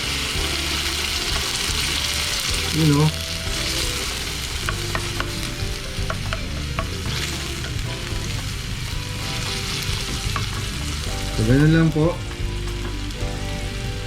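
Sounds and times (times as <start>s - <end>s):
tomatoes sizzling in oil: 0.0s - 14.0s.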